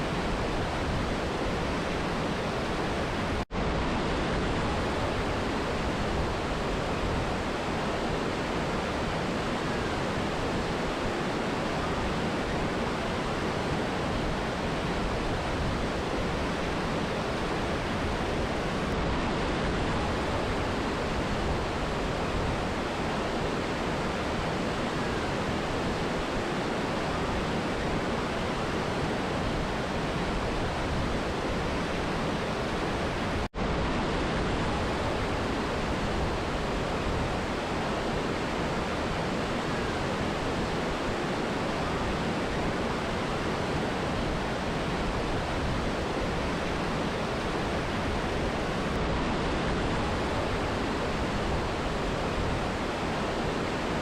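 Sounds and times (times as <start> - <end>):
rushing river and waterfall: 0.0 - 54.0.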